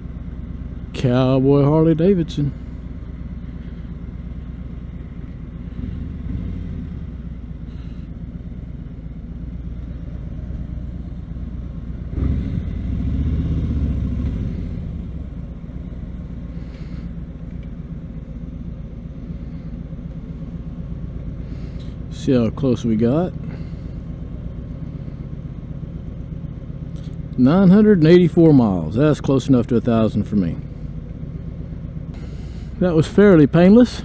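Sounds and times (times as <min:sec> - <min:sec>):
motorcycle engine rumble: 0:00.0 - 0:34.0.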